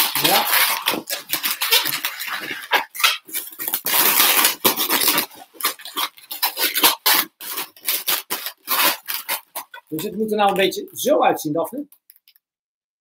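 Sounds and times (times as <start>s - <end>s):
balloons squeaking being twisted: 0.0s - 12.3s.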